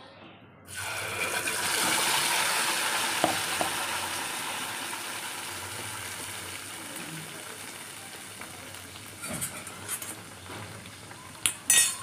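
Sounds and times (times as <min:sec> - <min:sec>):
paste sizzling in hot oil: 0:00.7 - 0:12.0.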